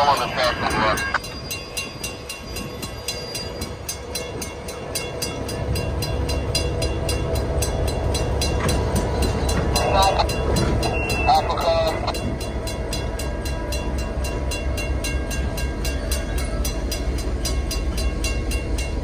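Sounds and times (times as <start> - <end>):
crossing bell ringing: 0.0 - 19.0
diesel locomotive engine rumble: 0.0 - 19.0.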